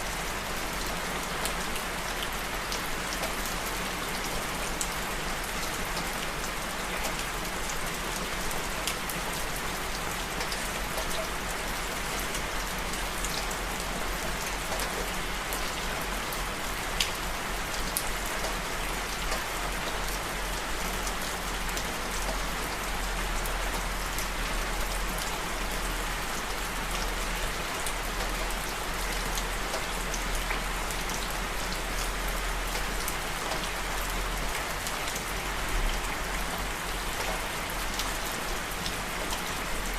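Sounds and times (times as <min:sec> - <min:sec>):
raindrops ticking on surface: 0:00.1 - 0:39.9.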